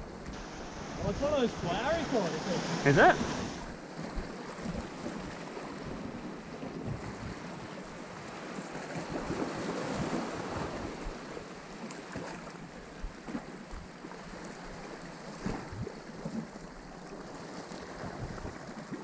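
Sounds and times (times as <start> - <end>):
sea waves washing over rocks: 0.1 - 19.0.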